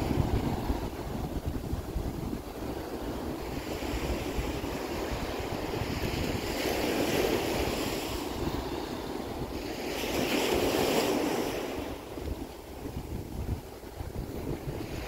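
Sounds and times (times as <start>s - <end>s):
small waves breaking on sand: 0.0s - 15.0s
wind rumbling on microphone: 0.0s - 15.0s.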